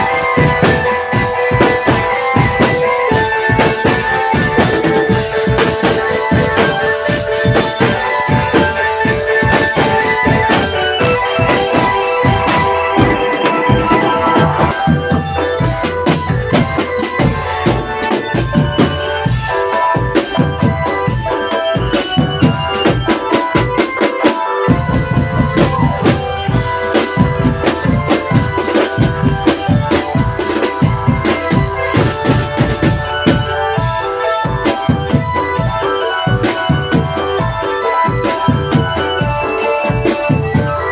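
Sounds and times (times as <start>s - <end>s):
keyboard-like melody: 0.0s - 40.9s
marching drum beats: 0.0s - 40.9s.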